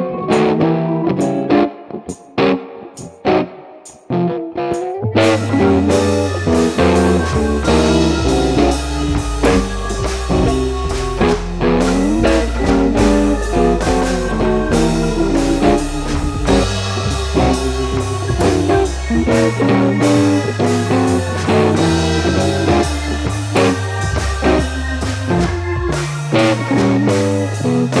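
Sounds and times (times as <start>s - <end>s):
guitar-led music with beat: 0.0s - 28.0s.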